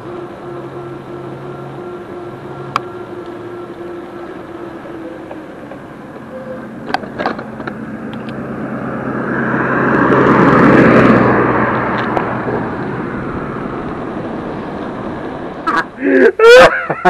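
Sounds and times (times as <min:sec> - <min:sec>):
pickup truck driving past: 0:00.0 - 0:16.0
wind and road noise: 0:00.0 - 0:17.0.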